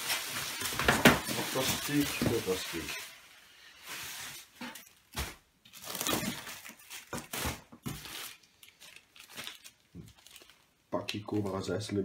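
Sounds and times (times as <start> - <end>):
plastic wrap crinkling: 0.0 - 11.4.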